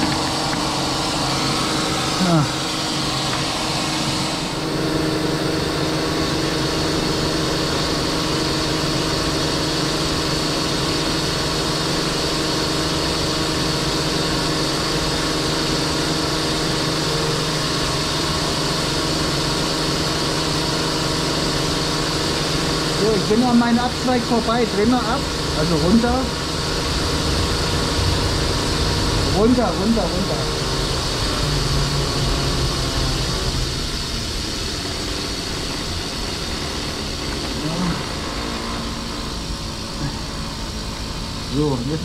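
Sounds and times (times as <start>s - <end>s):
jetting nozzle roar and hiss: 0.0s - 42.0s
steady machine hum: 0.0s - 42.0s.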